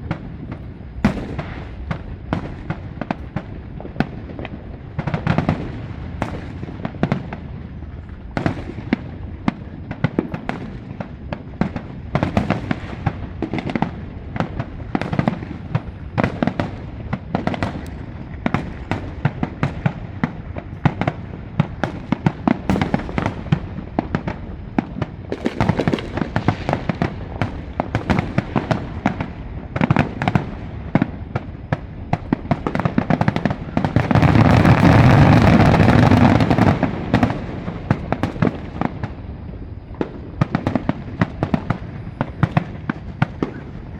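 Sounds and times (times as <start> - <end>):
fireworks bangs and cracks: 0.0 - 43.9.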